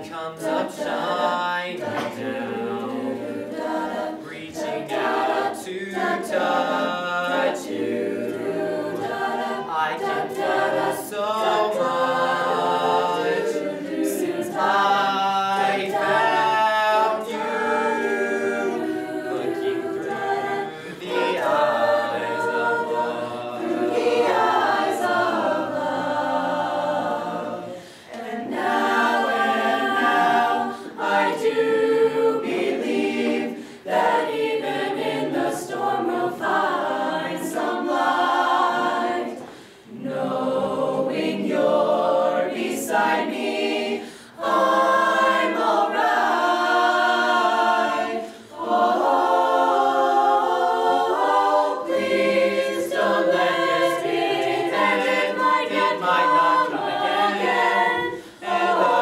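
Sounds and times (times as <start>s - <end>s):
choir of mixed voices singing: 0.0s - 59.0s.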